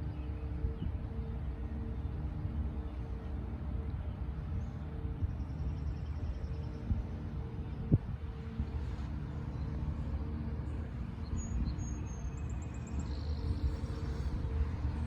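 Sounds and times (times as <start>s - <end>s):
low rumble with droning hum: 0.0s - 15.0s.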